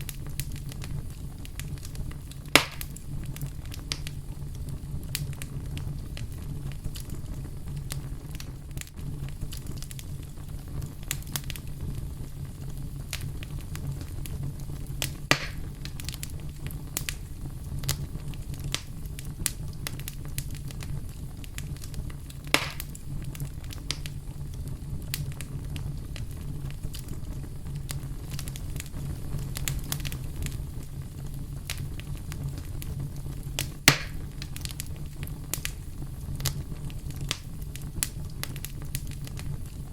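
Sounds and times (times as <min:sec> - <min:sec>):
campfire rumbling: 0:00.0 - 0:39.9
fire crackles: 0:00.0 - 0:39.9
fire pops: 0:00.0 - 0:39.9.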